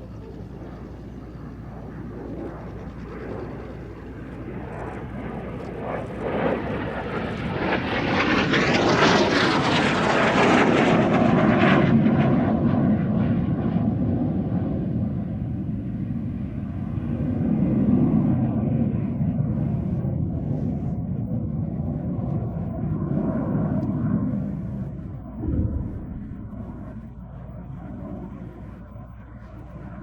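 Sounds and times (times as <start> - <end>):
jet aircraft flying past: 0.0 - 30.0.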